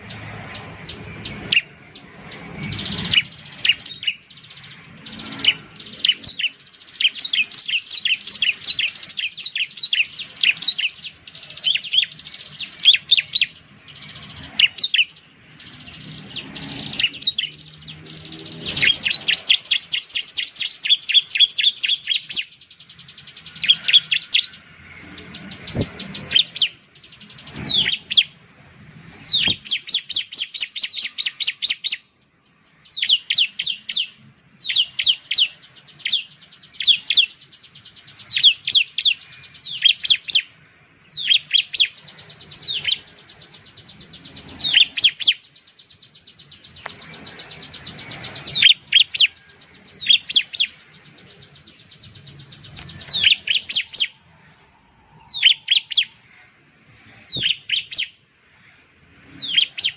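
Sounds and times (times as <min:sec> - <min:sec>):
bird singing sharp chirps: 0:00.0 - 0:28.4, 0:29.0 - 0:58.3, 0:59.0 - 0:59.9.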